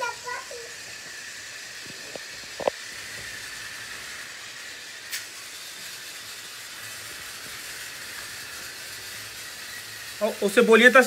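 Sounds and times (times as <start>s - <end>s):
toy train motor whir: 0.0s - 11.0s.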